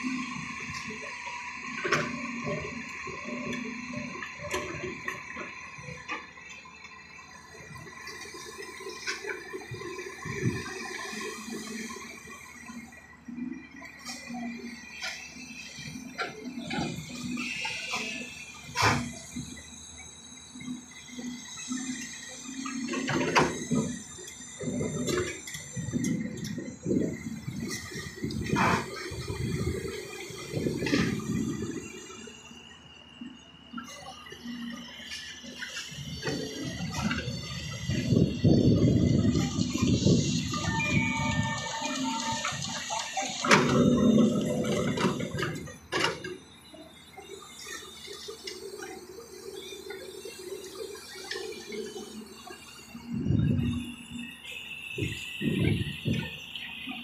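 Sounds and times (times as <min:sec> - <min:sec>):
engine whine: 0:00.0 - 0:57.0
excavator diesel engines running: 0:00.0 - 0:57.0.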